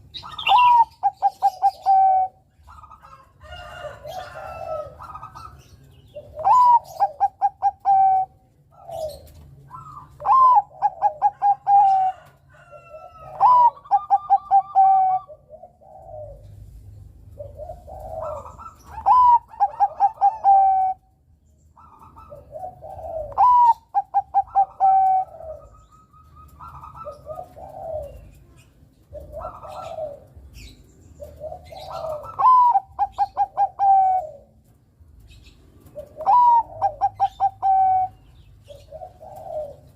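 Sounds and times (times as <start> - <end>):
zebra dove cooing: 0.0 - 21.1, 21.8 - 34.7, 35.8 - 39.9.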